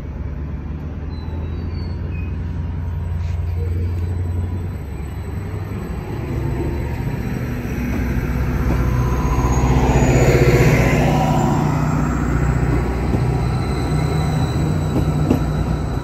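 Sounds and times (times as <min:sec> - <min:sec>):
diesel train engines: 0:00.0 - 0:16.0
train wheels on rails: 0:02.0 - 0:16.0.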